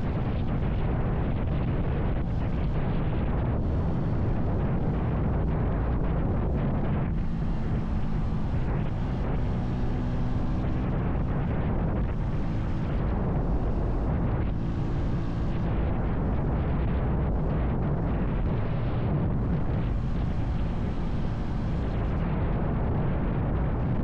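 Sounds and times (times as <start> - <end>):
motorcycle engine cruising: 0.0 - 24.0
wind buffeting the microphone: 0.0 - 24.0.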